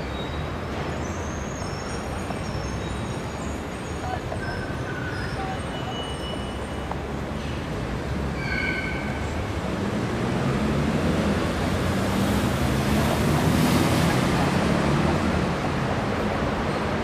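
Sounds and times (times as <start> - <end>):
broad rushing noise: 0.0 - 17.0.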